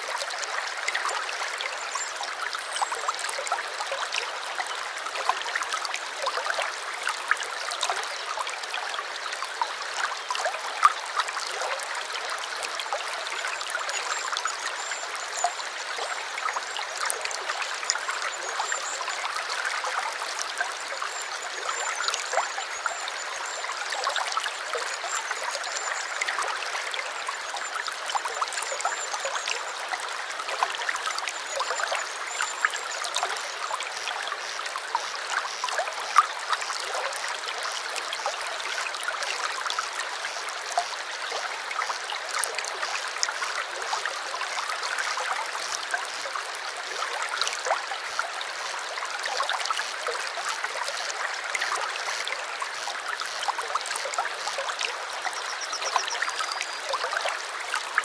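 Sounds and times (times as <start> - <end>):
brook trickling and babbling: 0.0 - 58.0.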